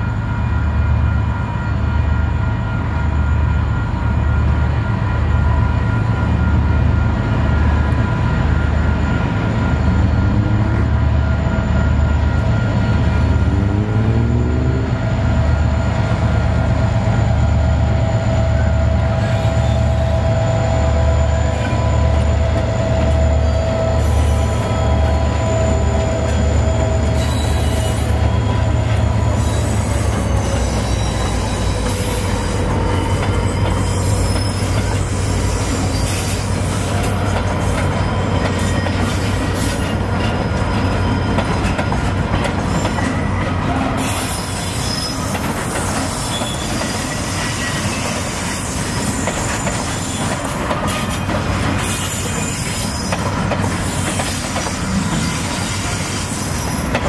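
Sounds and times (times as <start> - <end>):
diesel locomotive engine pulsing: 0.0 - 57.0
wheels squealing on rails: 0.0 - 57.0.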